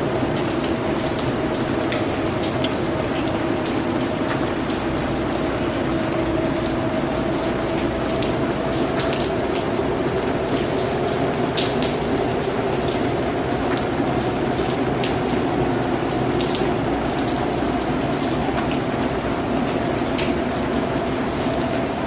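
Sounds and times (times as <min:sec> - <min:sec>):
individual water drips: 0:00.0 - 0:22.0
rain patter: 0:00.0 - 0:22.0.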